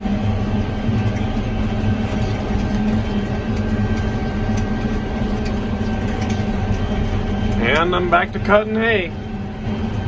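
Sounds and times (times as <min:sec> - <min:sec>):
hay swather engine running: 0:00.0 - 0:10.0.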